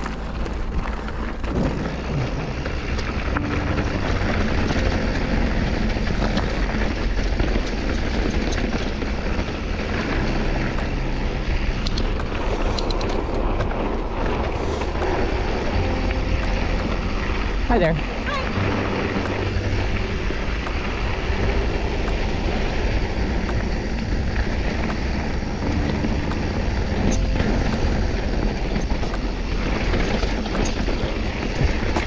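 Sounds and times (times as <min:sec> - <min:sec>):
bike tyres on dirt: 0:00.0 - 0:32.0
wind rush on microphone: 0:00.0 - 0:32.0.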